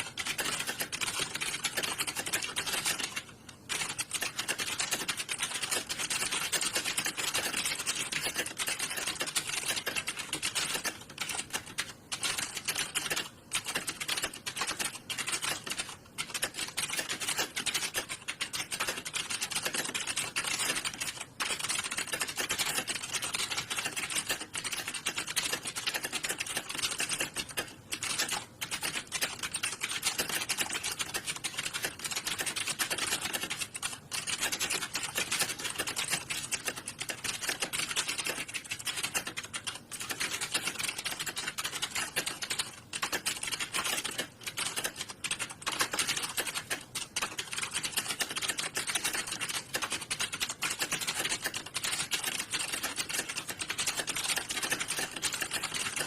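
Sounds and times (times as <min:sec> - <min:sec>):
clatter of keyboard keystrokes: 0:00.0 - 0:56.0.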